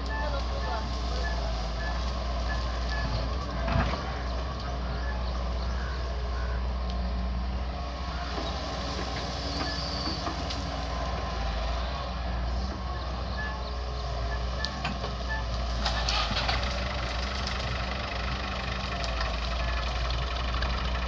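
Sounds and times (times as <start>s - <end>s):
diesel engines rumbling: 0.0s - 21.0s.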